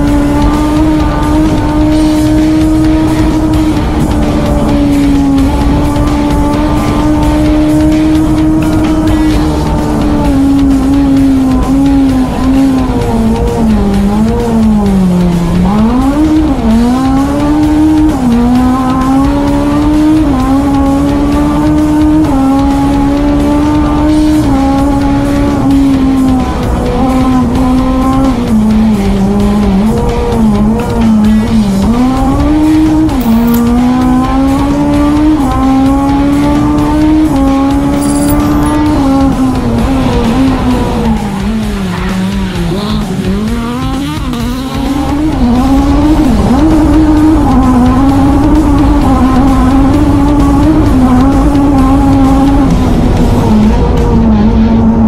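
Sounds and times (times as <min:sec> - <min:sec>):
rally car engine at high revs: 0:00.0 - 0:55.0.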